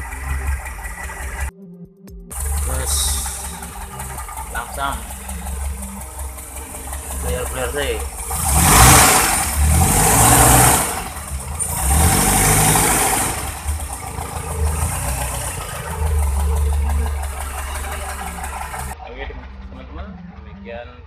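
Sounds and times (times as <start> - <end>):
car engine revving and idling: 0.0 - 1.5, 2.3 - 21.0.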